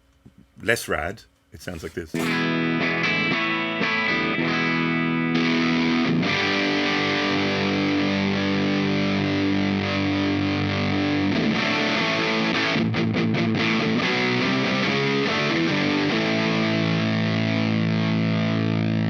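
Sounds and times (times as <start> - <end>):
distorted electric guitar chords: 2.2 - 19.0
picked guitar notes: 2.2 - 19.0.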